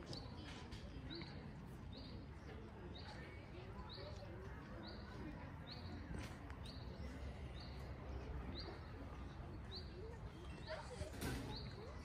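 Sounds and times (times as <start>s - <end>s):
faint distant voices: 0.0s - 12.0s
outdoor background noise: 0.0s - 12.0s.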